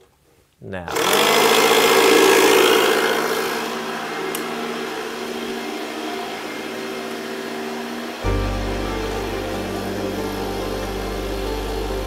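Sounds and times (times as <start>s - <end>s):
tire inflator compressor buzzing: 0.9s - 12.0s.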